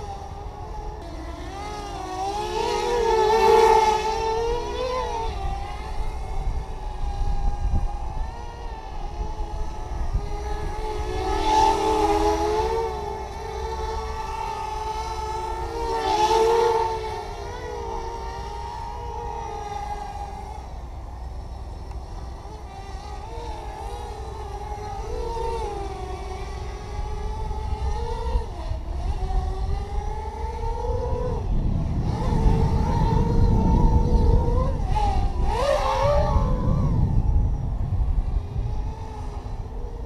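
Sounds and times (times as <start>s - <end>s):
low wind rumble: 0.0s - 40.0s
quadcopter motors whining: 0.0s - 40.0s.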